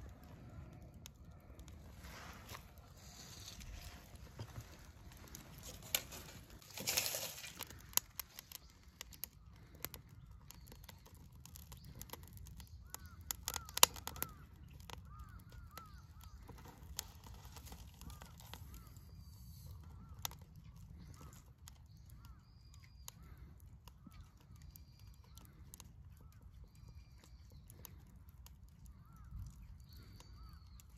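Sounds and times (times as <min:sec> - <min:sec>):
birds calling: 0:00.0 - 0:30.9
fire crackling and popping: 0:00.0 - 0:30.9.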